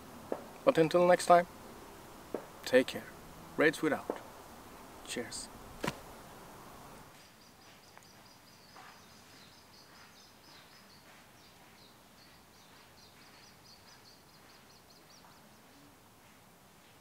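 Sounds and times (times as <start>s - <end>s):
low background hiss: 0.0s - 17.0s
small birds chirping: 1.4s - 16.0s.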